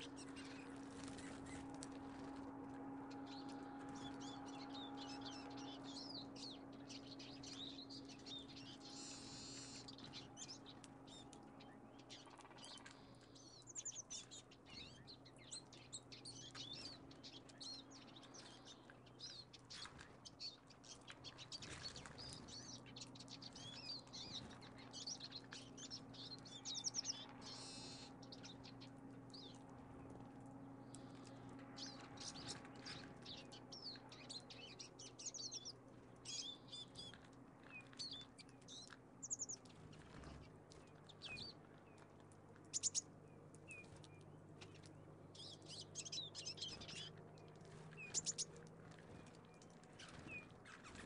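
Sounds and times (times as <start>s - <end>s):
small birds chirping: 0.0s - 51.0s
steady low hum: 0.0s - 51.0s.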